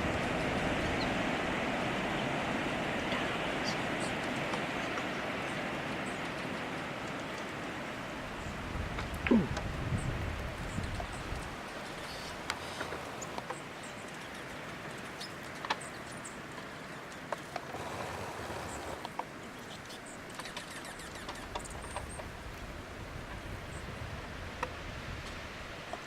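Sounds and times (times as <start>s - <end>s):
hiss of wind-blown snow: 0.0s - 15.3s, 17.6s - 26.0s
small birds chirping: 1.9s - 24.1s.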